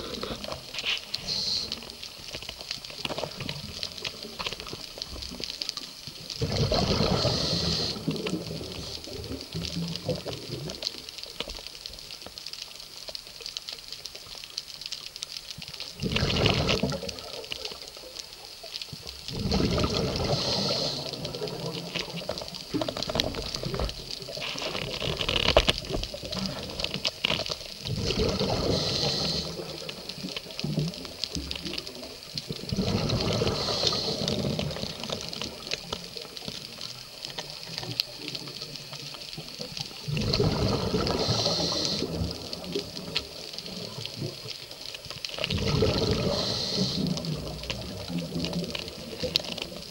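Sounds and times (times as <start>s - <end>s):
regulator hiss: 0.0s - 14.8s, 15.8s - 25.0s, 25.8s - 45.4s, 46.0s - 49.9s
exhaled bubbles gurgling underwater: 0.0s - 49.9s.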